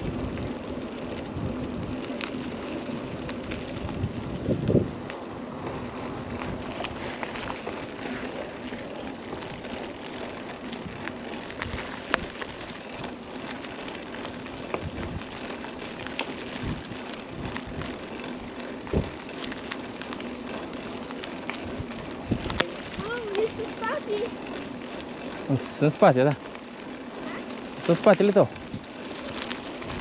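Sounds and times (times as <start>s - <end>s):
bike clicks and rattles: 0.0s - 30.0s
bike tyres and wind rushing: 0.0s - 30.0s.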